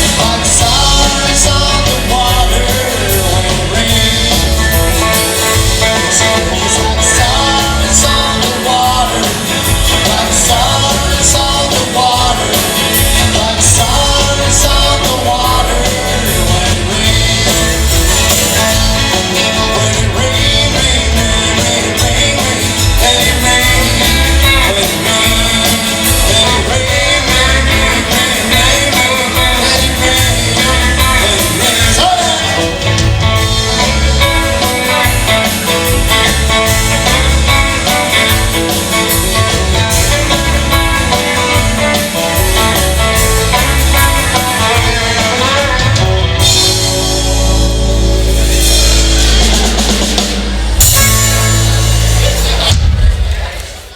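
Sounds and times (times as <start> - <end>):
rock music with singing: 0.0 - 53.9.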